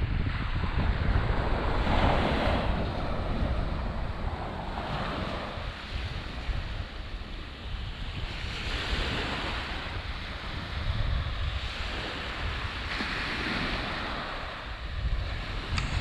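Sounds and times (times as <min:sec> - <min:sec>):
wind rumble on microphone: 0:00.0 - 0:16.0
small waves washing on sand: 0:00.1 - 0:16.0.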